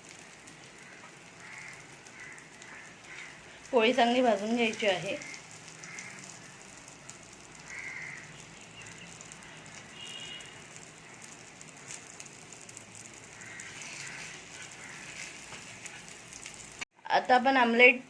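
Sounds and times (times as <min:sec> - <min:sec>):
crackles and pops: 0:00.0 - 0:16.9
egg sizzling in oil: 0:00.0 - 0:16.9.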